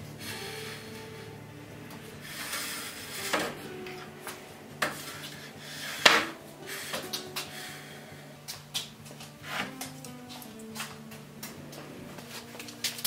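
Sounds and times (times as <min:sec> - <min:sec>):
wood rubbing: 0:00.0 - 0:13.0.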